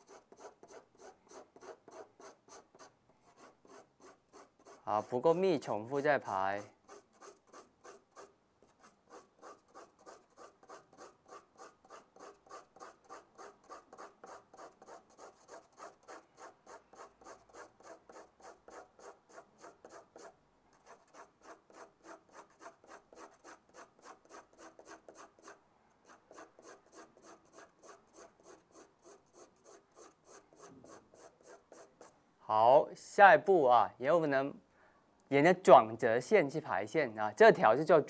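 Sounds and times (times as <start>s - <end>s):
pencil scratching on paper: 0.0s - 32.1s.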